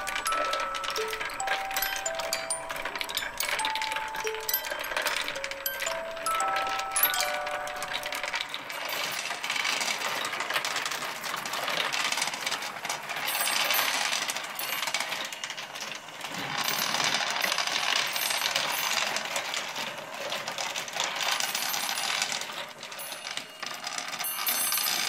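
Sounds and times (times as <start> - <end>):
steel balls clicking and rattling: 0.0 - 25.0.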